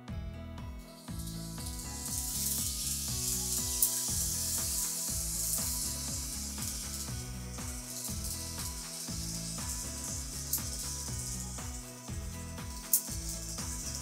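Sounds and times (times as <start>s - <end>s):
background music with bass line: 0.0s - 14.0s
steady high hiss: 1.0s - 14.0s.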